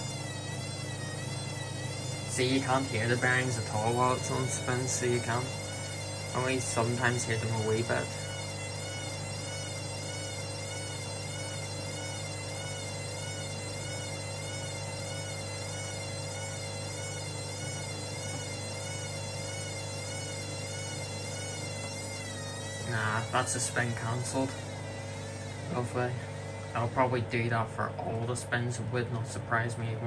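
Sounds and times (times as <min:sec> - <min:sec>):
washing machine spinning: 0:00.0 - 0:30.0.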